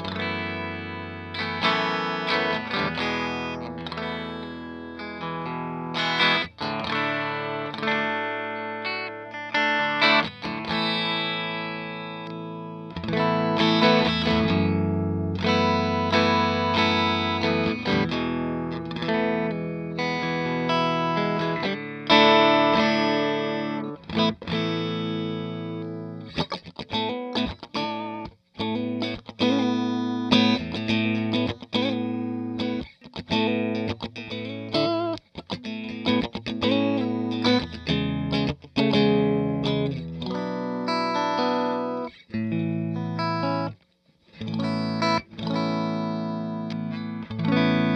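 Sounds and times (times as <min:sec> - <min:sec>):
electric guitar through valve amplifier: 0:00.0 - 0:47.9.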